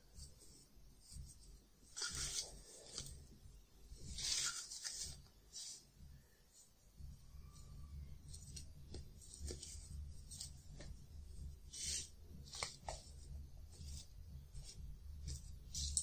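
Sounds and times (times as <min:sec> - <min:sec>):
low hum: 0:00.1 - 0:16.0.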